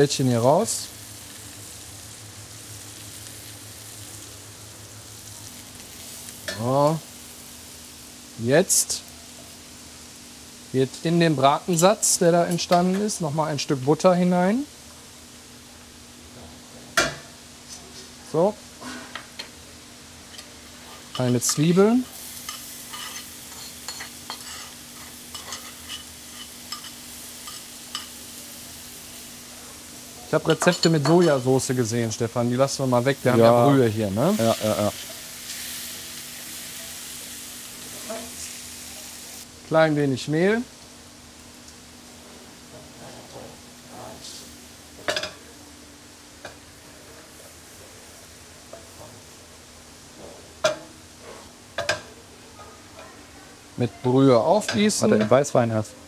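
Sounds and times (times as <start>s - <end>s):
meatballs sizzling in a pan: 0.0s - 55.9s.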